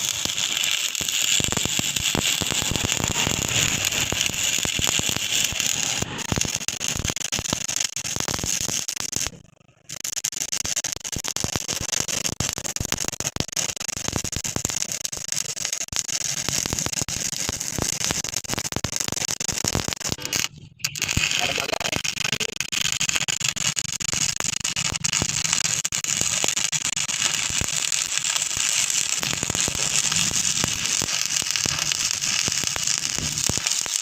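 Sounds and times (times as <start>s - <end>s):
arc welding crackle: 0.0s - 34.0s.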